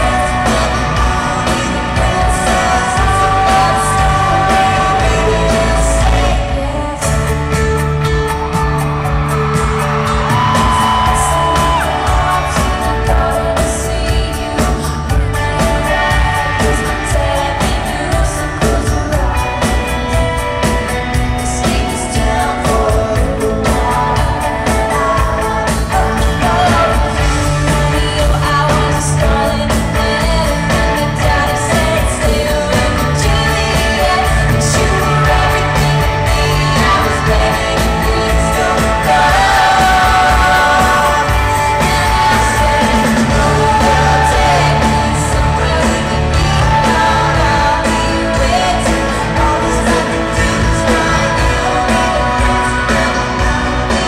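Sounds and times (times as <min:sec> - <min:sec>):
woman singing into microphone: 0:00.0 - 0:20.5, 0:21.2 - 0:54.0
band playing with pulsing bass: 0:00.0 - 0:54.0.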